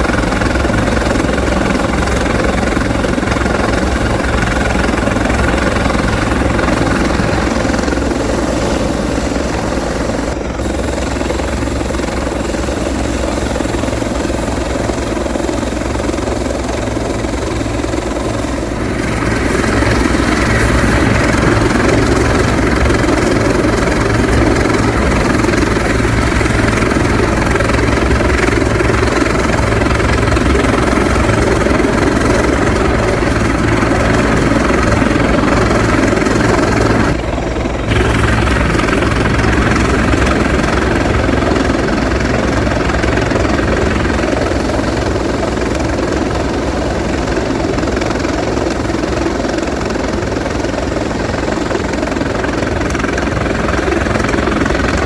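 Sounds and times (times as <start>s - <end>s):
helicopter loud drone: 0.0s - 55.0s.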